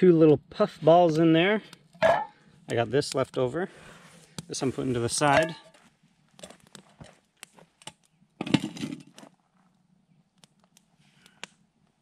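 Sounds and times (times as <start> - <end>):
campfire crackling and popping: 1.0 - 12.0.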